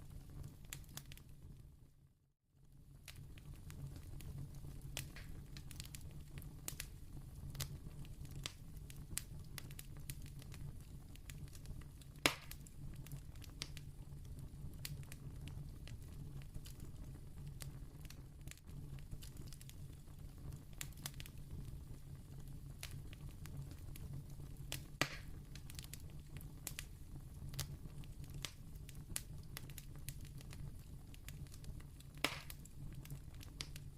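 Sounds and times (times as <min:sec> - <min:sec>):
candle crackling: 0:00.0 - 0:01.6, 0:02.8 - 0:33.9.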